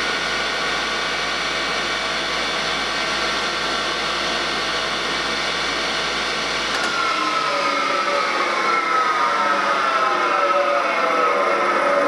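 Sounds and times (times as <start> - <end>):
woodworking machine whine: 0.0 - 12.0.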